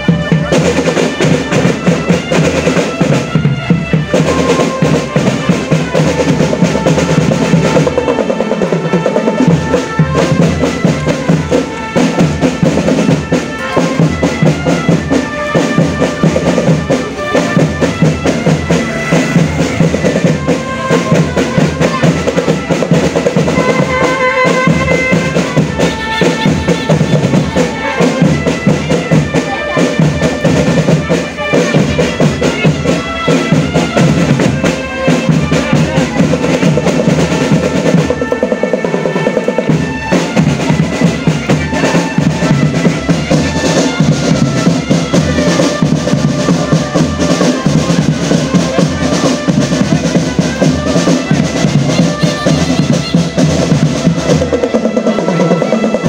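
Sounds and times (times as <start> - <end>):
marching drum band playing: 0.0 - 56.0
snare drum beating: 0.0 - 56.0.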